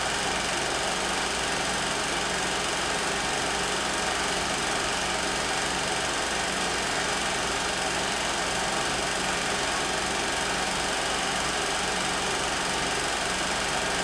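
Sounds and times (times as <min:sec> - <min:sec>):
film projector whirring: 0:00.0 - 0:14.0.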